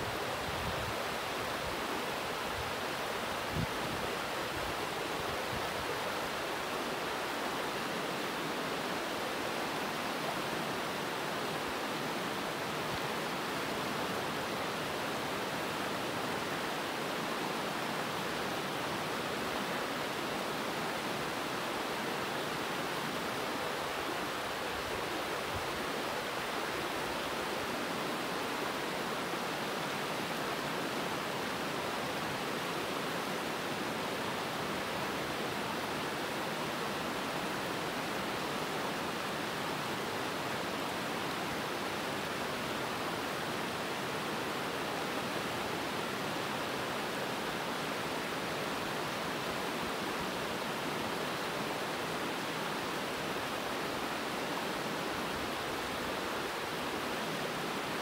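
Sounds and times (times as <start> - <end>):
river rapids rushing over rocks: 0.0 - 58.0.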